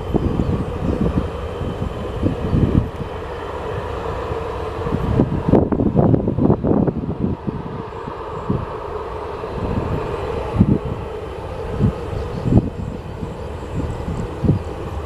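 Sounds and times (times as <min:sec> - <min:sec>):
jet engines droning: 0:00.0 - 0:15.0
wind buffeting microphone: 0:00.0 - 0:15.0.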